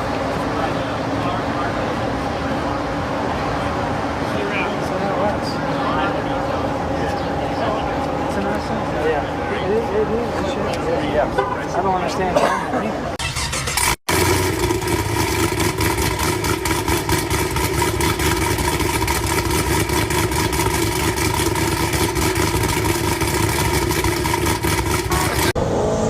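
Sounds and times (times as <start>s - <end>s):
car engine idling: 0.0s - 12.3s, 12.9s - 25.6s.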